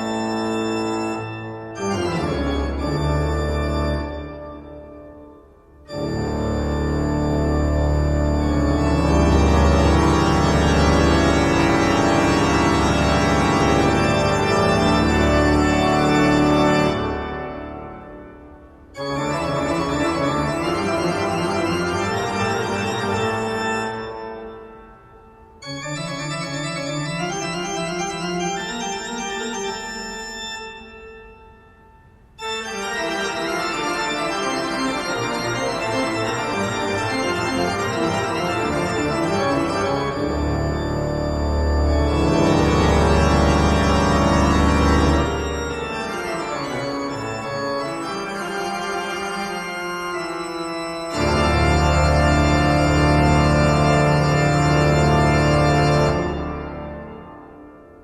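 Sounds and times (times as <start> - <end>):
sustained organ chords: 0.0 - 58.0.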